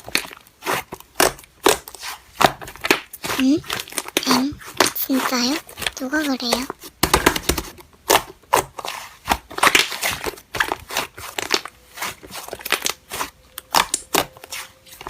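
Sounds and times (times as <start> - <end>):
slime clicking and popping: 0.0 - 15.0.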